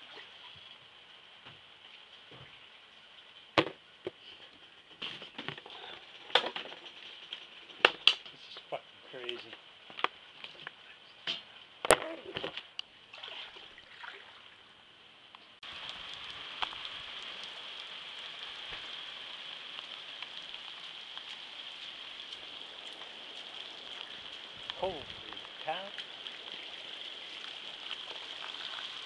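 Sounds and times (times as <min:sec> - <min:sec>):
rain falling: 0:00.0 - 0:13.8, 0:14.6 - 0:29.0.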